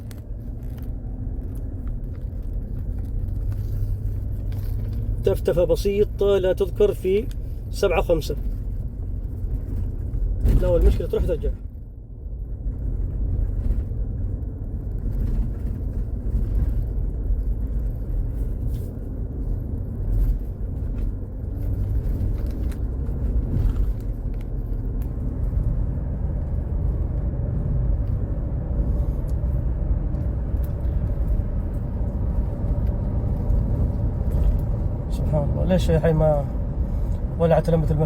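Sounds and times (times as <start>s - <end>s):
engine rumble inside car: 0.0s - 38.0s
road noise: 0.0s - 38.0s.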